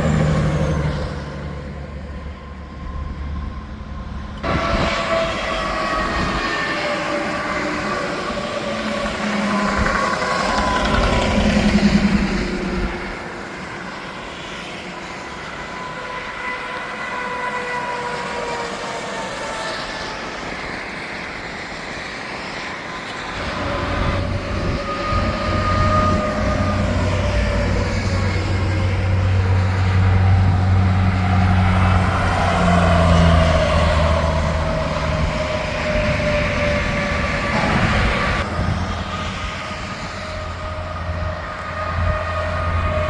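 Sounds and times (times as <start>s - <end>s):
heavy vehicle engine hum: 0.0s - 16.9s, 22.8s - 43.0s
traffic passing: 0.0s - 43.0s
vehicle engine and tyre noise: 0.0s - 43.0s.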